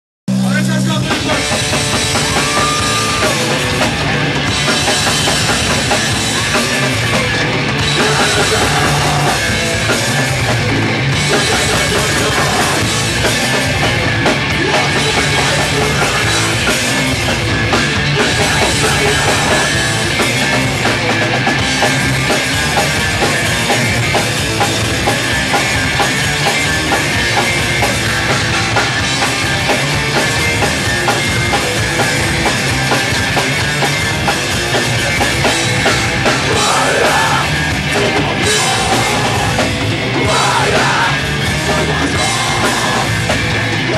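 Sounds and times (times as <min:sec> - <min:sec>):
drum kit: 0:00.3 - 0:43.9
electric guitar: 0:00.3 - 0:43.9
punk band playing live: 0:00.3 - 0:43.9.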